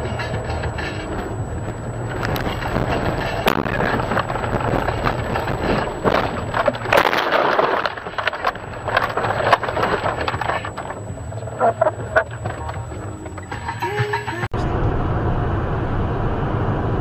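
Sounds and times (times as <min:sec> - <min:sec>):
car body knocks and rattles: 0:00.0 - 0:14.4
car road rumble: 0:00.0 - 0:17.0.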